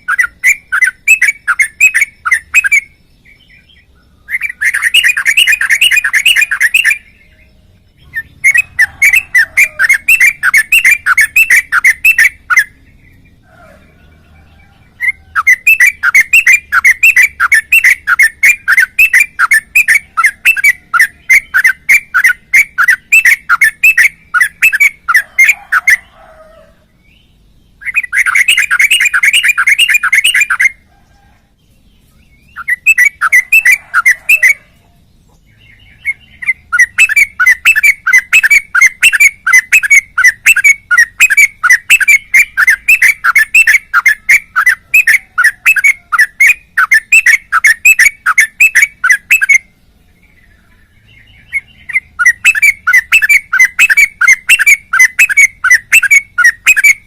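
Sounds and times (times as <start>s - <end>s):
bird singing rapid repeated notes: 0.0s - 30.9s, 31.5s - 57.0s.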